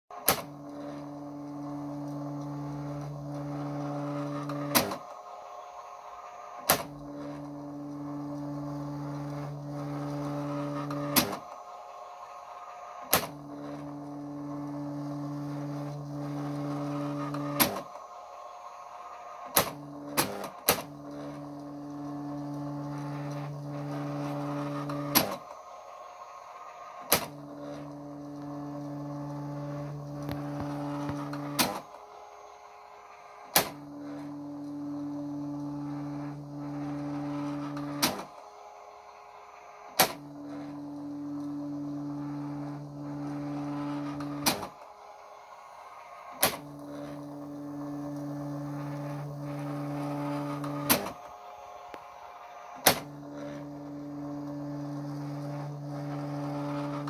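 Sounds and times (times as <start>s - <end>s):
printer carriage motor hum: 0.1s - 57.0s.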